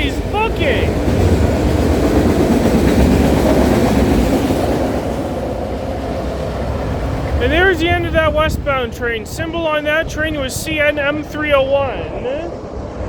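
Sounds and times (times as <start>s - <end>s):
freight train cars rolling past: 0.0s - 13.0s.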